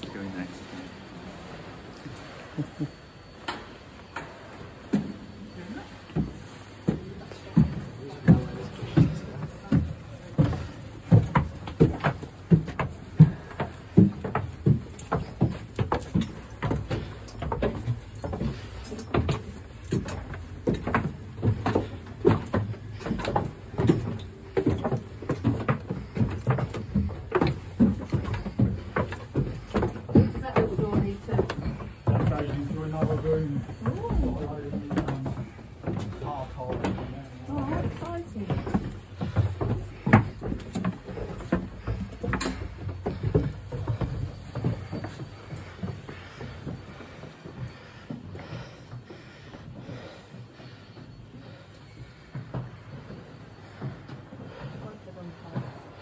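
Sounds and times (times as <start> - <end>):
footsteps on stone stairs: 0.0 - 56.0.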